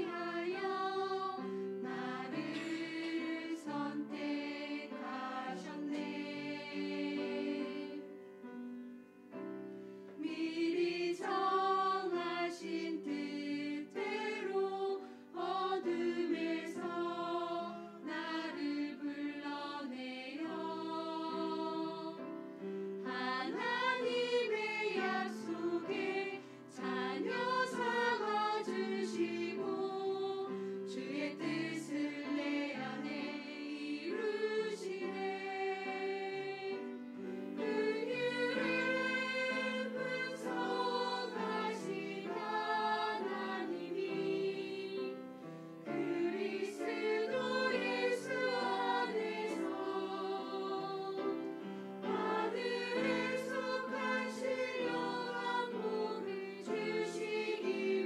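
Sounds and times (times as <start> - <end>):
choir singing: 0.0 - 8.7, 10.0 - 58.0.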